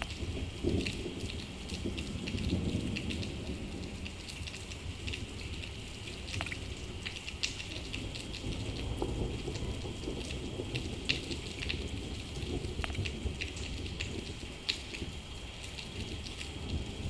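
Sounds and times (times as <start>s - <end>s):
raindrops tapping a surface: 0.0s - 17.0s
steady rain falling: 0.0s - 17.0s.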